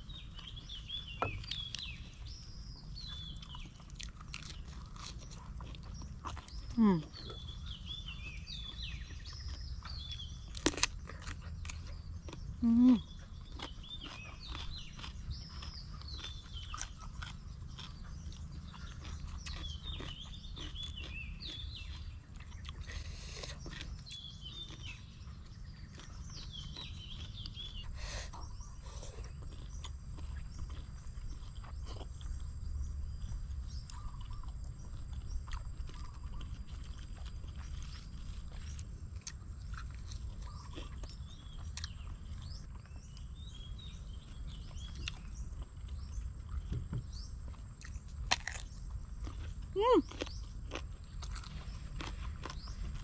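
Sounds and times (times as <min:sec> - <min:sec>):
birds chirping: 0:00.0 - 0:53.0
chewing and crunching food: 0:00.0 - 0:53.0.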